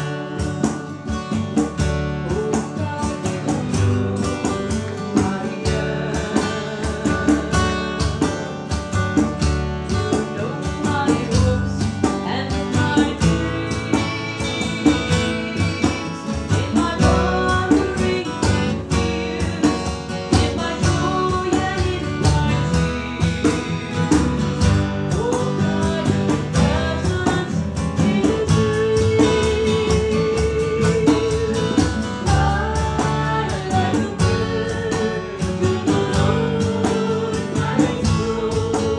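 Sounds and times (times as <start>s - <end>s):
person singing: 0.0s - 38.9s
strummed acoustic guitar: 0.0s - 38.9s.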